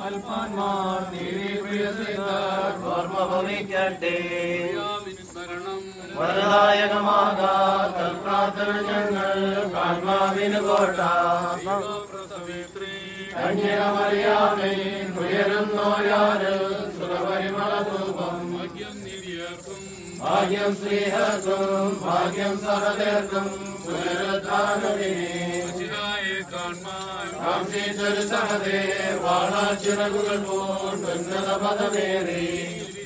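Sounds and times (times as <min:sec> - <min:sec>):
liturgical chant: 0:00.0 - 0:33.0.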